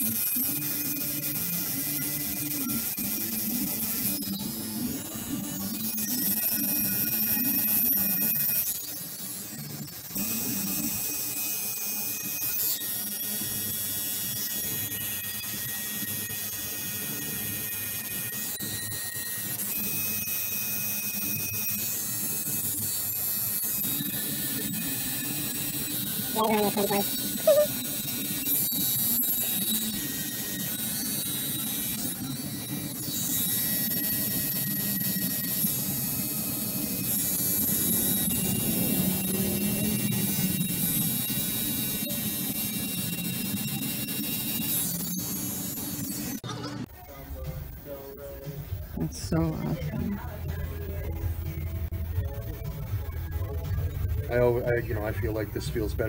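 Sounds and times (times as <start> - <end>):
tattoo machine buzzing: 0.0 - 46.5.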